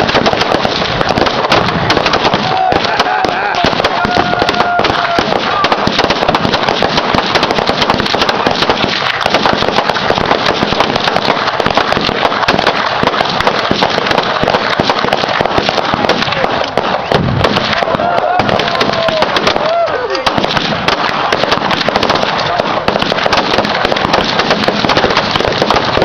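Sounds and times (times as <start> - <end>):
firecrackers crackling: 0.0 - 26.0.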